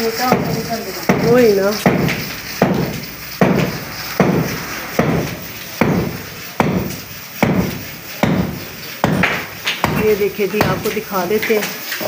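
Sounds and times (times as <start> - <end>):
heavy hammer blows: 1.1 - 10.8.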